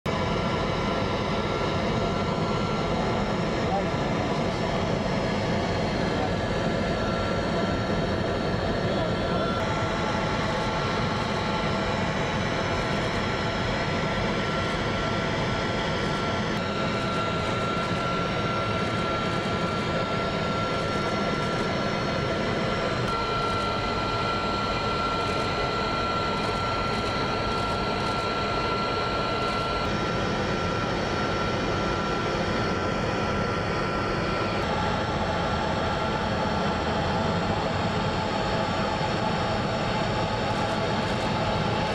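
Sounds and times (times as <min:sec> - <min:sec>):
aircraft engine drone: 0:00.1 - 0:41.9
thin constant whine: 0:00.1 - 0:41.9.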